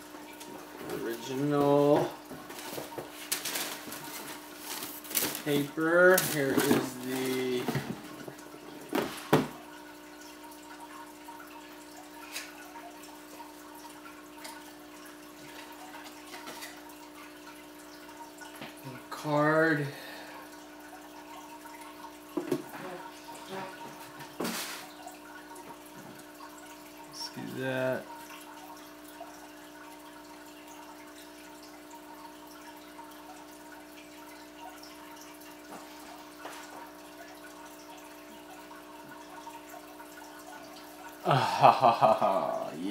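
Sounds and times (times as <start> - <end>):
aquarium filter humming: 0.0 - 42.9
water trickling and dripping: 0.0 - 42.9.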